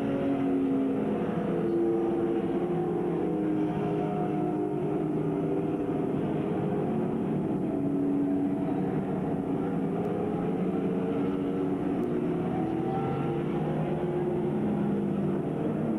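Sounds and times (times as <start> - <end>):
stock car engines droning: 0.0 - 15.9.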